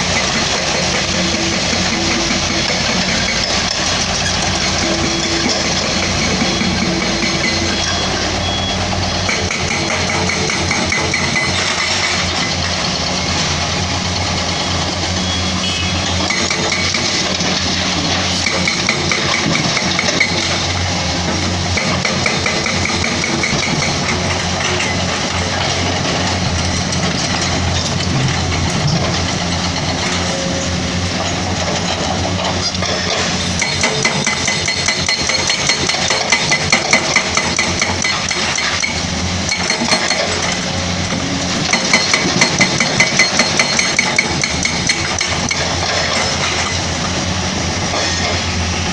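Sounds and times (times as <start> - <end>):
heavy diesel machinery engines: 0.0 - 48.9.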